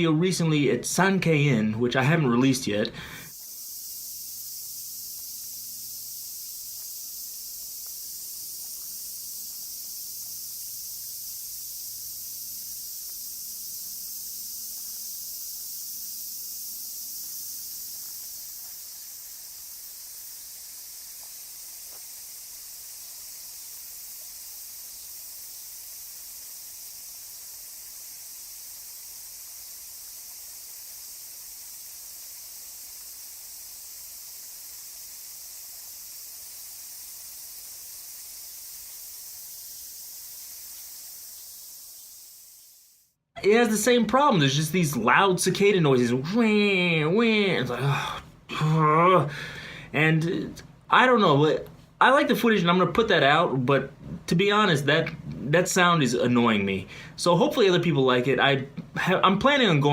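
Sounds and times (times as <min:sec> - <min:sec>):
cicadas shrilling: 0:00.0 - 0:59.9.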